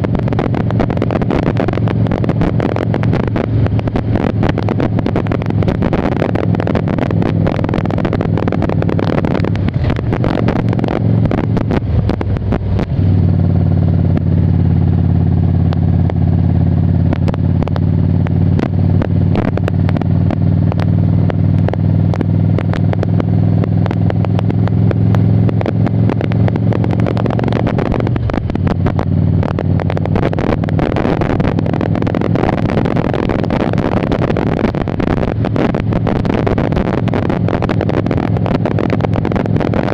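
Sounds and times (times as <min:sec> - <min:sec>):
wind buffeting microphone: 0:00.0 - 0:14.4, 0:16.9 - 0:39.9
motorcycle engine running: 0:00.0 - 0:39.9.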